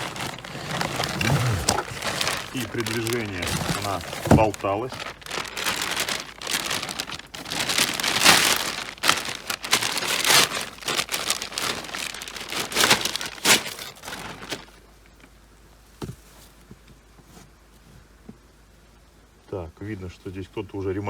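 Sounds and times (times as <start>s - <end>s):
crinkling rustling handling noise: 0.0s - 18.6s.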